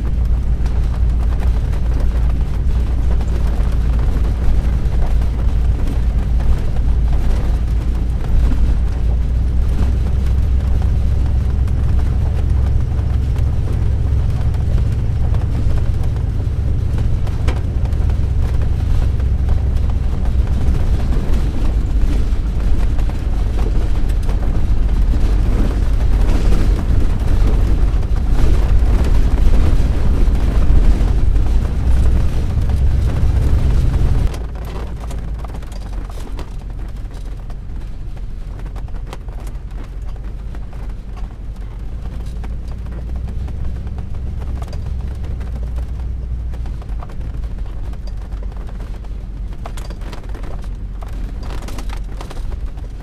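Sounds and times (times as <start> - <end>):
motorhome driving on dirt road: 0.0 - 53.0.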